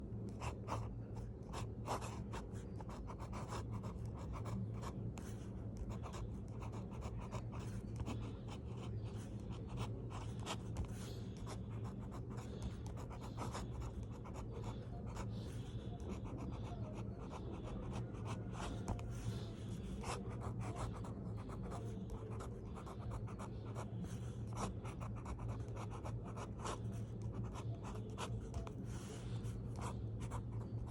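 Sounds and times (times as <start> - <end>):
low background hum: 0.0 - 30.9
pen scratching on paper: 0.3 - 30.9.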